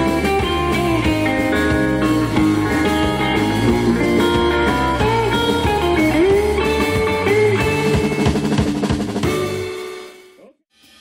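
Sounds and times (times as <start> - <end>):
surf rock band playing: 0.0 - 10.2
twangy electric guitar: 0.0 - 10.3.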